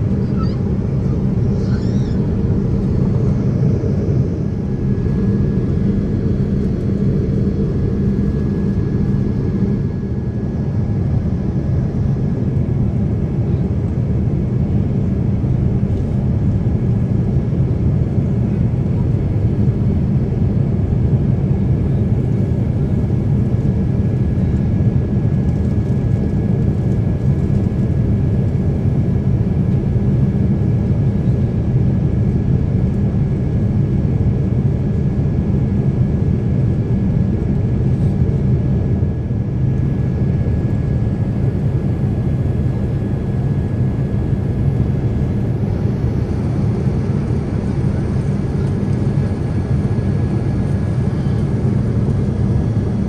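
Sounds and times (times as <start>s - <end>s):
jet cabin engine roar: 0.0s - 53.0s.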